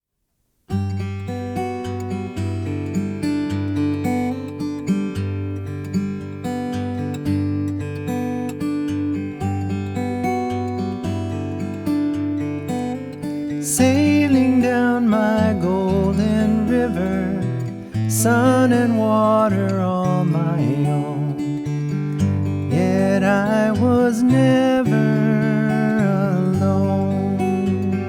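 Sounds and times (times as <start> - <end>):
acoustic guitar playing: 0.7 - 28.0.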